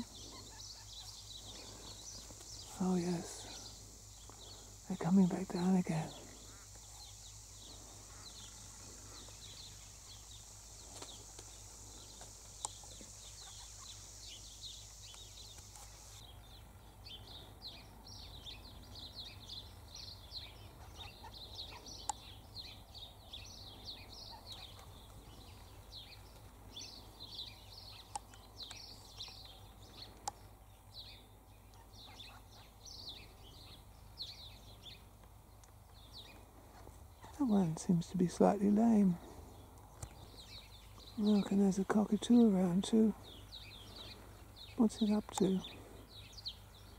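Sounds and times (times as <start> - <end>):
birds chirping and twittering: 0.0 - 46.9
steady high hiss: 0.0 - 46.9.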